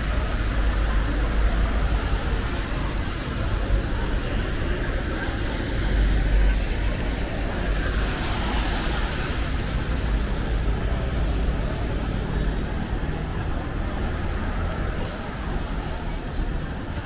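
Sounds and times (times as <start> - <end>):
low traffic rumble: 0.0 - 17.0
tyres hissing on wet road: 0.0 - 17.0.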